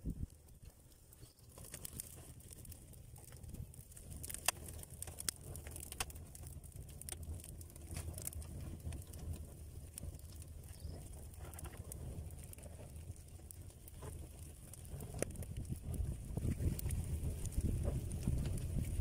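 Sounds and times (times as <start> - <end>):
low steady fire rumble: 0.0 - 19.0
twigs crackling and popping in fire: 0.0 - 19.0.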